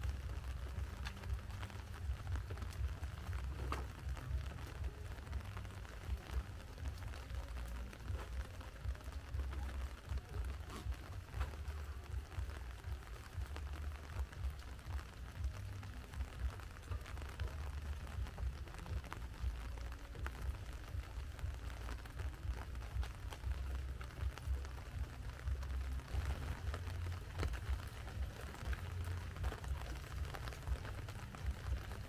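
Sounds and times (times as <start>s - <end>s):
low uneven rumble: 0.0s - 32.0s.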